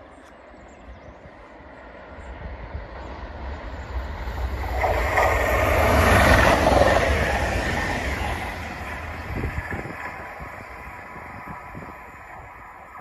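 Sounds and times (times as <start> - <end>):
electric train passing: 1.2 - 13.0.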